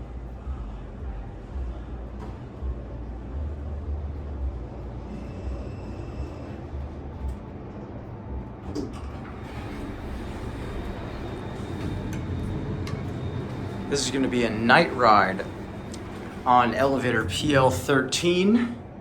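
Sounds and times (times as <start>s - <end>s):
low mechanical rumble: 0.0s - 19.0s.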